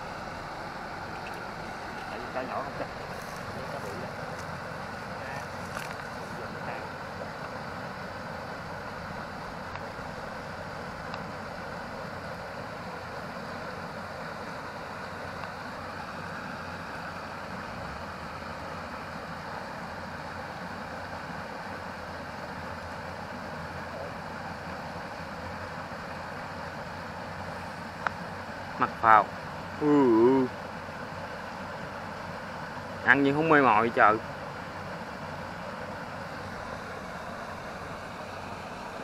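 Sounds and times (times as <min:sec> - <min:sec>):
low hum and hiss: 0:00.0 - 0:39.0.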